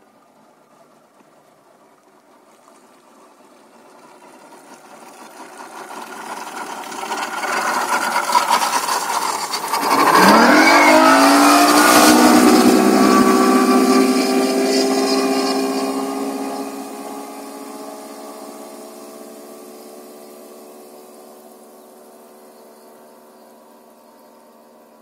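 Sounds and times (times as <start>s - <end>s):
rushing water: 0.0s - 25.0s
outboard motor running: 1.4s - 25.0s.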